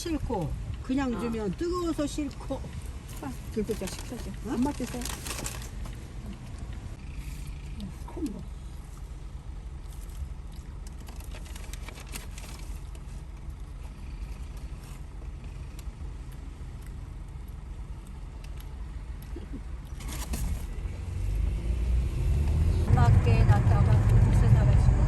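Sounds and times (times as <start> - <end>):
car cabin low rumble: 0.0 - 25.0.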